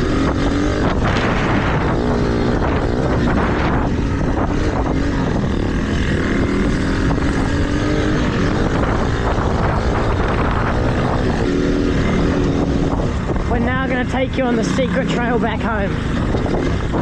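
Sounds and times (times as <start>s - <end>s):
dirt bike engine revving: 0.0s - 17.0s
wind buffeting microphone: 0.0s - 17.0s.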